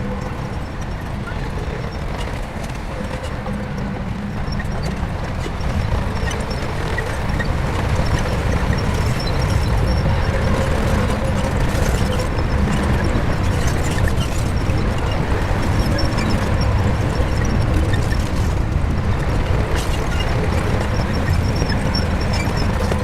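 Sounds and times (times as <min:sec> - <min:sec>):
bulldozer diesel engine drone: 0:00.0 - 0:23.0.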